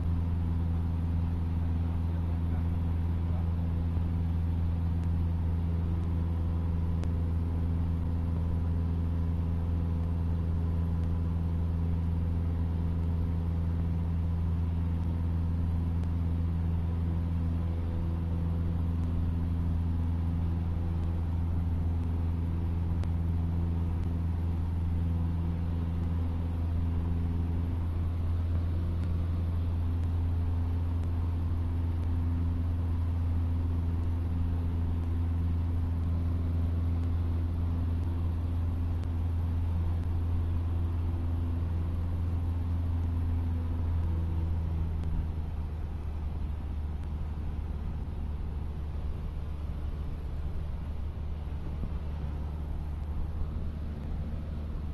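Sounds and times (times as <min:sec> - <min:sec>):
propeller aircraft engine drone: 0:00.0 - 0:54.9.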